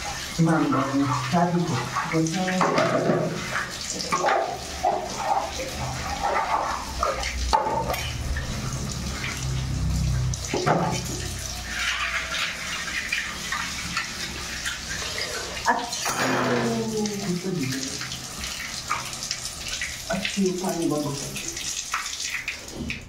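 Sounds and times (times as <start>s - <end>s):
brush scrubbing wet tiled floor: 0.0s - 23.0s
water splashing: 0.0s - 23.0s.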